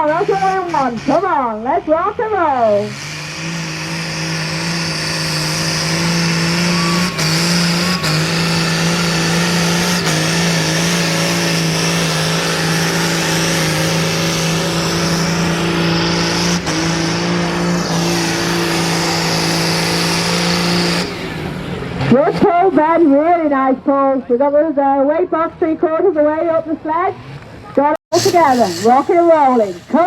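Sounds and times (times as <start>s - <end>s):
tractor engine under heavy load: 0.0s - 23.0s, 27.2s - 30.0s.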